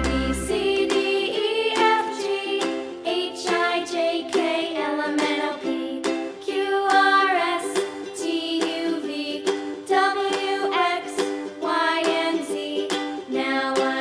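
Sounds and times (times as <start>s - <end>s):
plucked-string tune: 0.0s - 14.0s.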